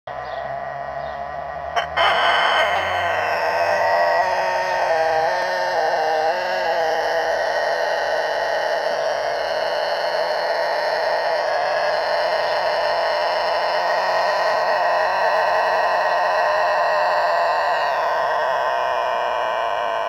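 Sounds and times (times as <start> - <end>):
rooster crowing: 0.2 - 20.0.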